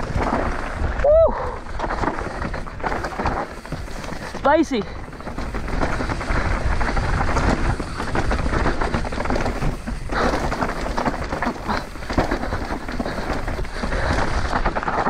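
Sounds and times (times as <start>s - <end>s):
bike rattling over stones: 0.0s - 15.0s
bike tyres crunching over rocky trail: 0.0s - 15.0s
wind buffeting microphone: 0.0s - 15.0s.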